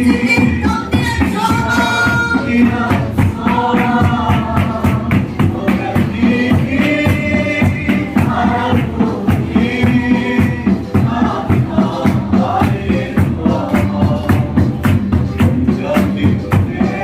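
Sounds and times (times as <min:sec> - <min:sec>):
congregation singing a hymn: 0:00.0 - 0:17.0
steady percussive beat: 0:00.0 - 0:17.0.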